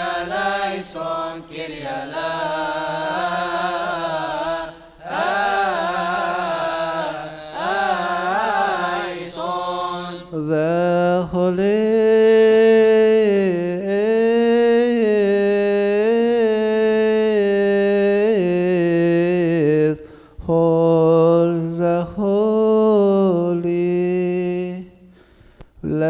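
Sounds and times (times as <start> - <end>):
man singing a chant: 0.0 - 25.1, 25.8 - 26.0.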